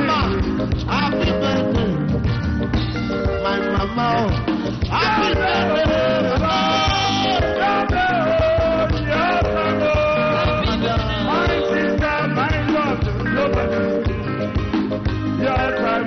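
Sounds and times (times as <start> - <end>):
song with singer over beat: 0.0 - 16.0.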